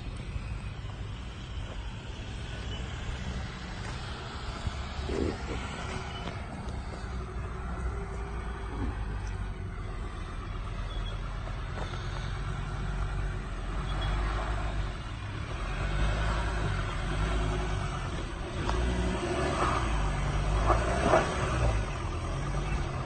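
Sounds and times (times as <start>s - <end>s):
pickup engine revving under load: 0.0s - 23.0s.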